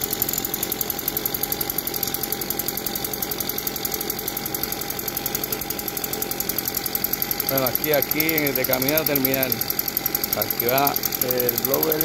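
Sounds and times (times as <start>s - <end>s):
leaf blower engine idling: 0.0s - 12.0s.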